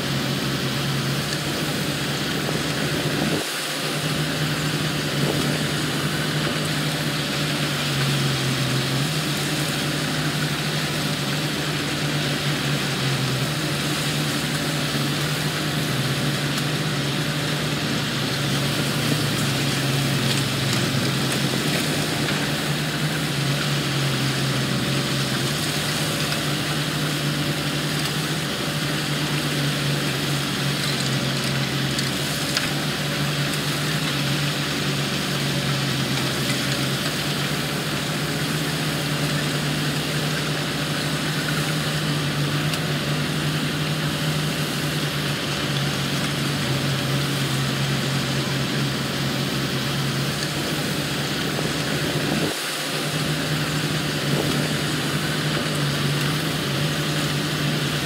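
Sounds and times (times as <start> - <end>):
construction machinery diesel engines: 0.0 - 58.0.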